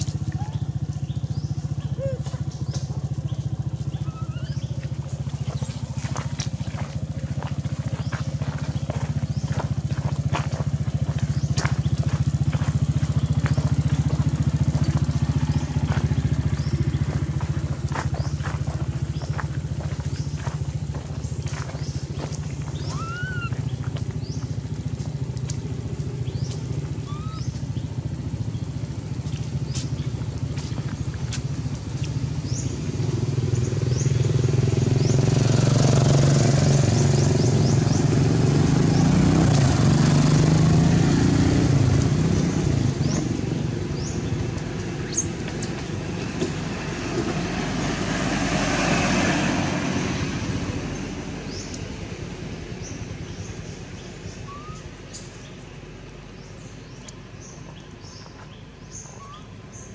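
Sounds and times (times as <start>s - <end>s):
vehicle passing loudly: 0.0s - 54.8s
traffic engine hum: 0.0s - 59.9s.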